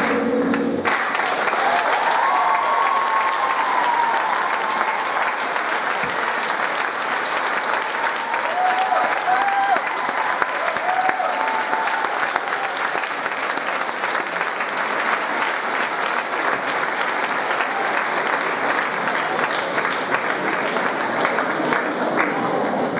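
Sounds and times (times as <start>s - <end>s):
audience applauding: 0.0s - 22.9s.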